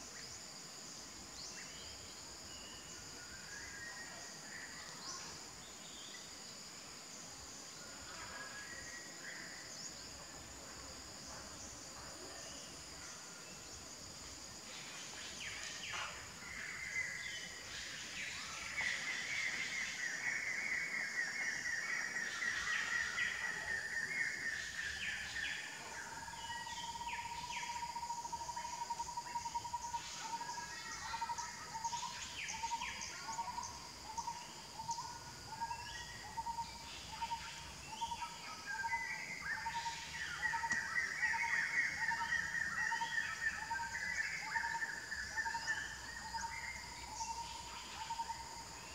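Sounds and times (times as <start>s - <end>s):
high insect drone: 0.0s - 48.9s.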